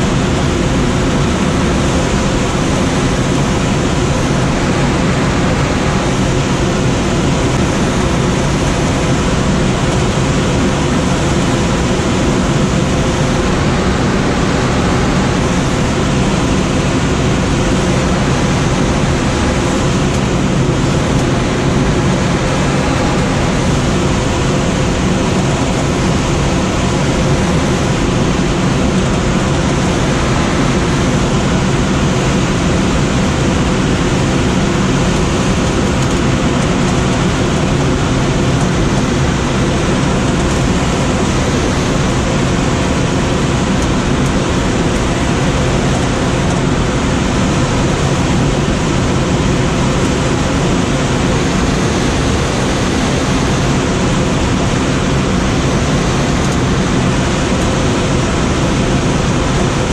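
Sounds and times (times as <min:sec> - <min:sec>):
low steady hum: 0:00.0 - 0:59.9
rush of airflow: 0:00.0 - 0:59.9.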